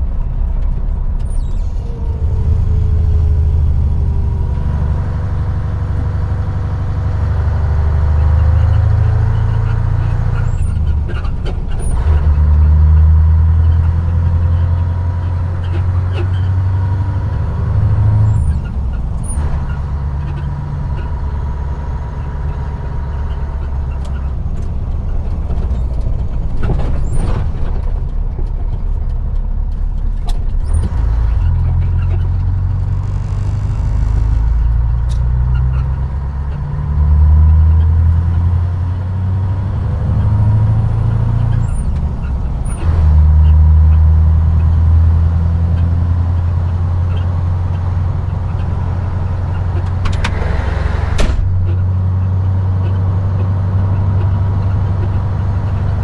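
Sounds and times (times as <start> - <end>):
truck diesel engine from cab: 0.0 - 56.0.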